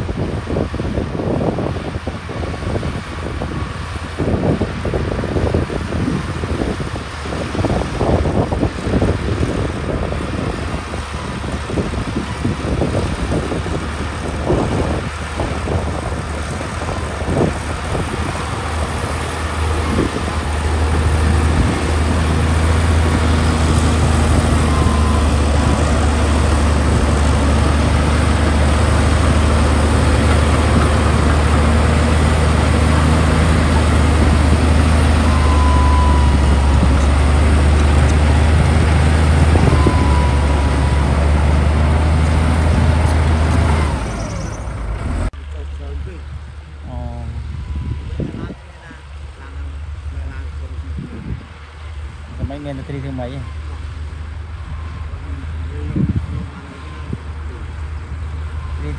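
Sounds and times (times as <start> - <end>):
bulldozer diesel engine drone: 0.0 - 58.9.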